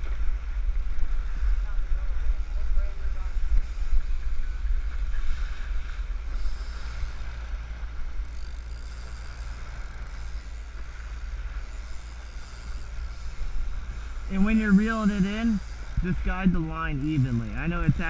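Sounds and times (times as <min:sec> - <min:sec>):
outboard motors droning: 0:00.0 - 0:18.0.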